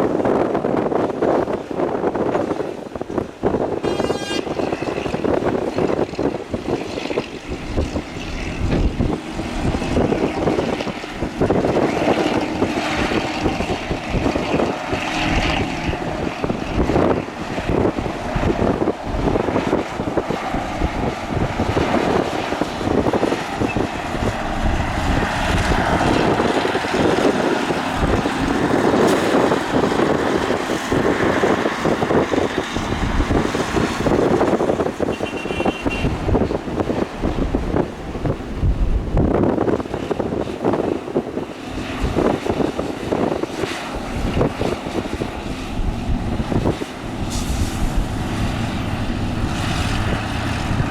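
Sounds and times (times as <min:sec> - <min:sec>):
wind buffeting microphone: 0:00.0 - 0:50.9
excavator diesel engine running: 0:03.4 - 0:39.9, 0:43.5 - 0:50.9.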